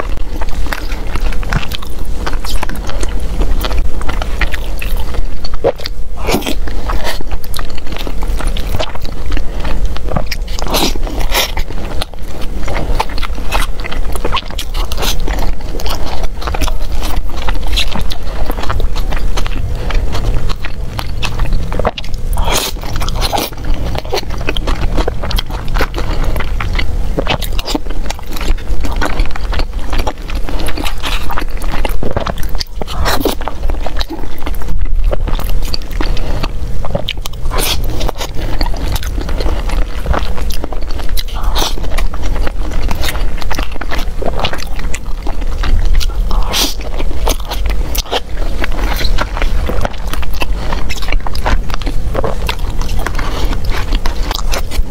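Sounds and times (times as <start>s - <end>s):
person chewing: 0.0s - 54.9s.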